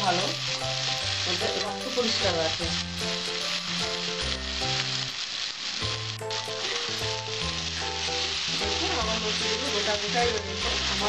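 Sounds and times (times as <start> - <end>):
background music: 0.0 - 5.1, 5.8 - 11.0
food sizzling in a pan: 0.0 - 11.0.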